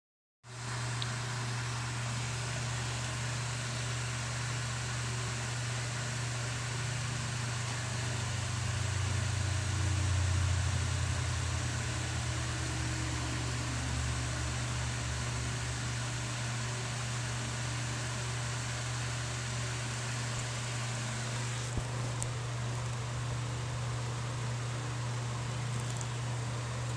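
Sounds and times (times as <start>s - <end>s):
steady low hum: 0.5s - 26.9s.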